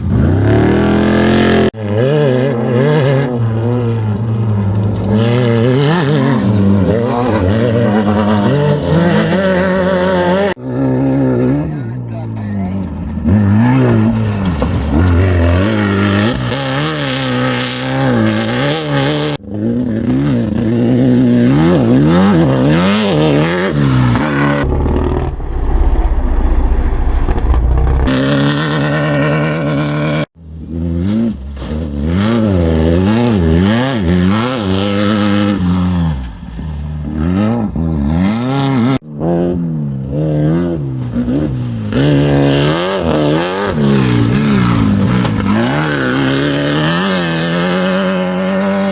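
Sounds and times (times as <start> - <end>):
race engines revving: 0.0 - 48.9.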